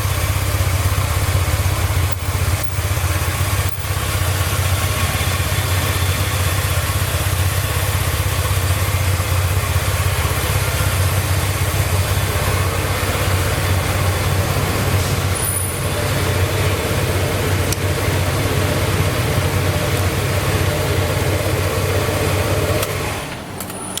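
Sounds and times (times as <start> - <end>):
scooter engine idling: 0.0 - 24.0.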